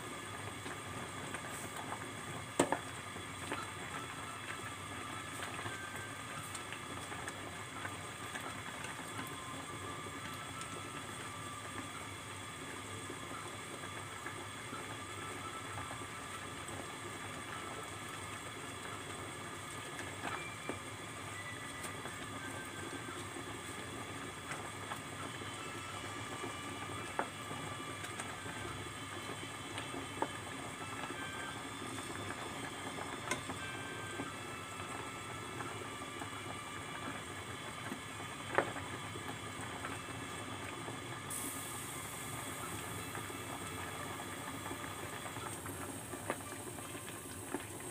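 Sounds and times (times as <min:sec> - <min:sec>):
water boiling: 0:00.0 - 0:47.9.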